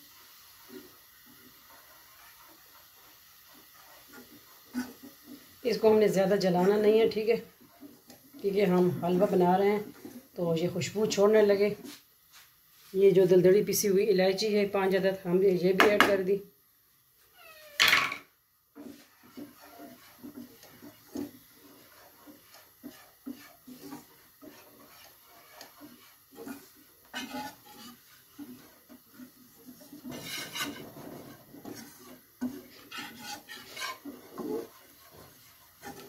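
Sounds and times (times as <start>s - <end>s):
utensil scraping flour in a pan: 0.0s - 16.4s, 18.7s - 36.0s.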